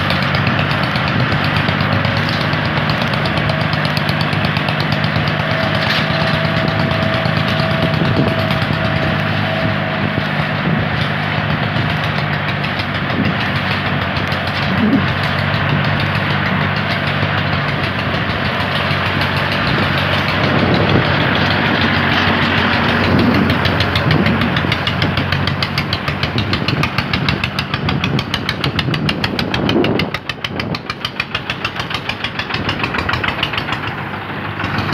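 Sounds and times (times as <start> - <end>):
rapid knocking beat: 0.0 - 34.9
tractor and truck engines running: 0.0 - 34.9.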